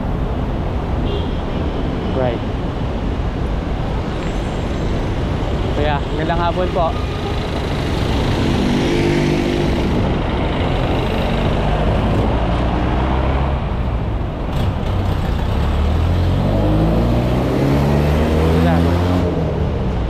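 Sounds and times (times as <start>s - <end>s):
low road rumble: 0.0s - 20.0s
vehicles passing with engines running: 0.0s - 20.0s.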